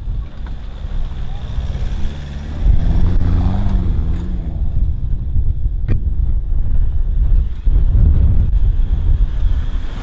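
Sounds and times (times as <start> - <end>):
engine rumbling under load: 0.0 - 10.0.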